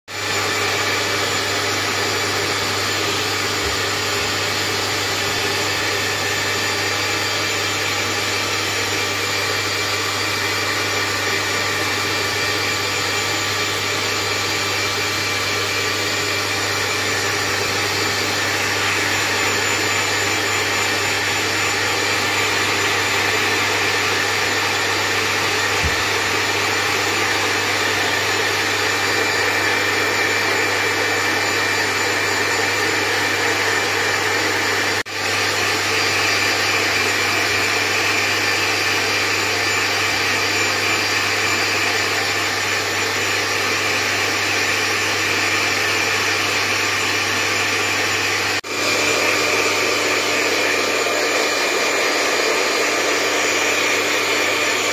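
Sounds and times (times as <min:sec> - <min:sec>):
hairdryer running: 0:00.1 - 0:54.9.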